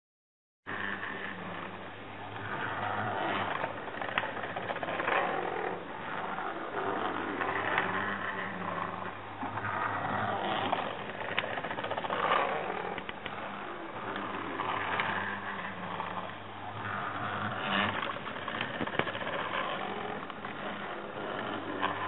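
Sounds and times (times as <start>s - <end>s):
steady low hum: 0.7s - 22.0s.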